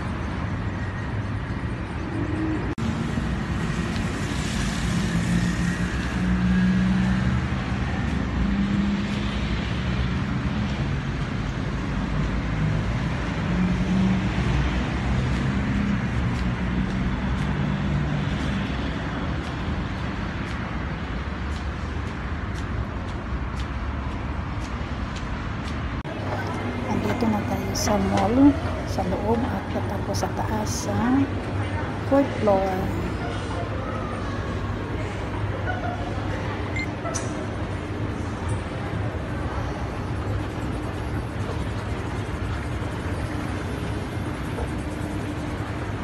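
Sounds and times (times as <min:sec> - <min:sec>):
car and bus engines passing: 0:00.0 - 0:46.0.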